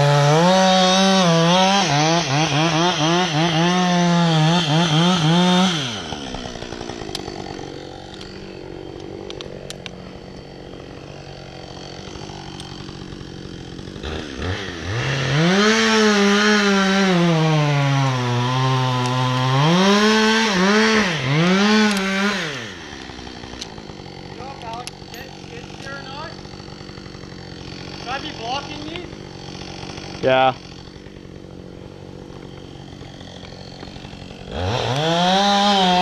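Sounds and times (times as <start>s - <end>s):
chainsaw cutting log: 0.0s - 36.0s
chainsaw idling and revving: 0.0s - 36.0s.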